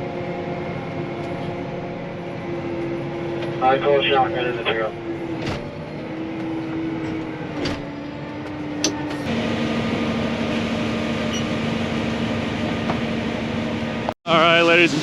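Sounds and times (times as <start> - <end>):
vehicle engine and cab fan: 0.0 - 15.0.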